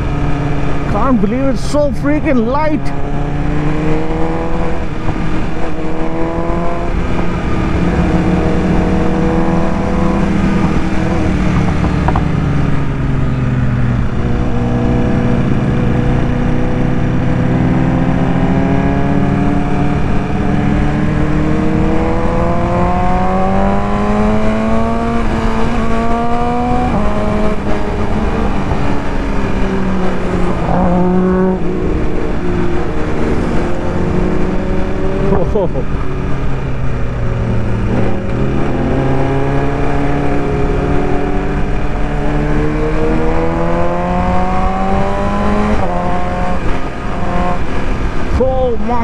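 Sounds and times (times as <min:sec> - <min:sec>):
motorcycle engine revving: 0:02.1 - 0:49.0.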